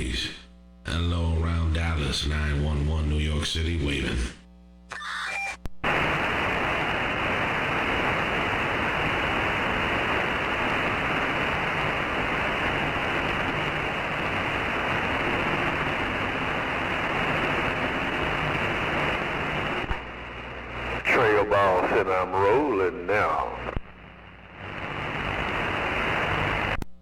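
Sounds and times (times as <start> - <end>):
radio static hiss: 0.0 - 26.8.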